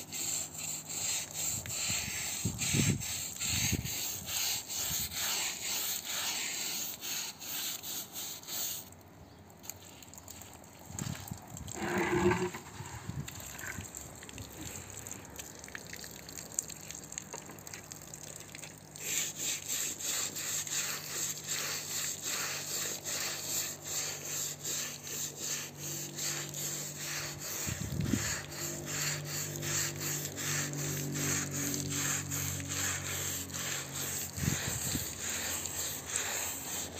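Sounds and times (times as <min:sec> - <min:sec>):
brush scrubbing wet carpet: 0:00.0 - 0:08.9, 0:11.1 - 0:14.8, 0:17.9 - 0:36.9.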